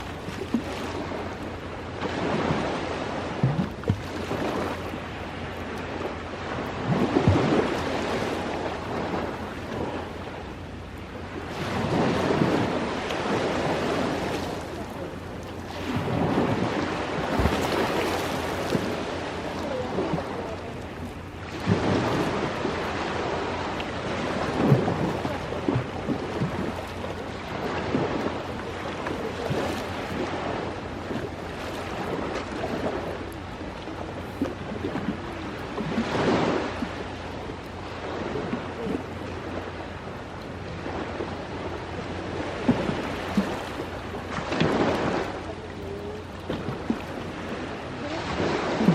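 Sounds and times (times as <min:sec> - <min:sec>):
ocean waves washing ashore: 0:00.0 - 0:48.9.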